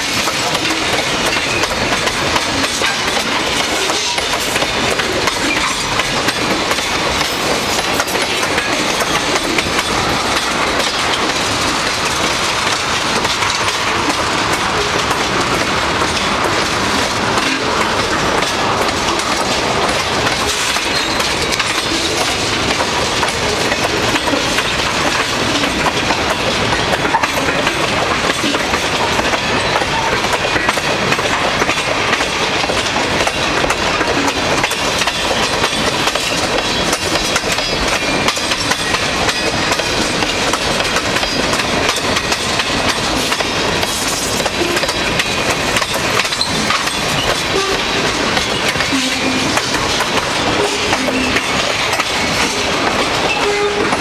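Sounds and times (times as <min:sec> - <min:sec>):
rail rumble: 0:00.0 - 0:54.0
train wheels clacking over rail joints: 0:00.0 - 0:54.0.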